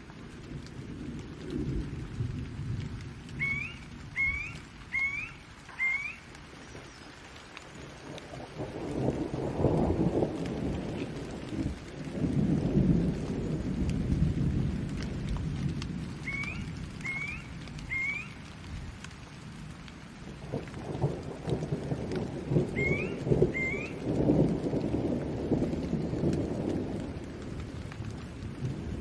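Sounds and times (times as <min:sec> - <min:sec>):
thunder rumbling: 0:00.0 - 0:07.0, 0:07.6 - 0:29.0
steady rain: 0:00.0 - 0:29.0.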